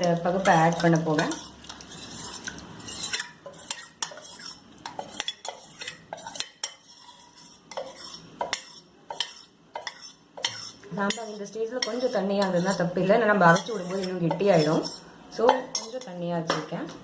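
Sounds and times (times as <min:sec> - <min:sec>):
metal spoon clinking on pots: 0:00.0 - 0:12.8, 0:13.4 - 0:16.6.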